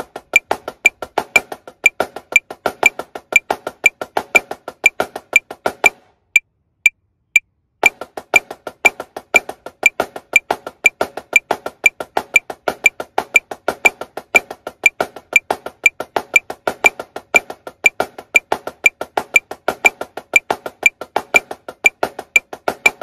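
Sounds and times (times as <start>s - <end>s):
marching snare drum triplets: 0.0s - 6.0s, 7.8s - 23.0s
metronome clicking: 0.0s - 6.5s, 7.4s - 23.0s.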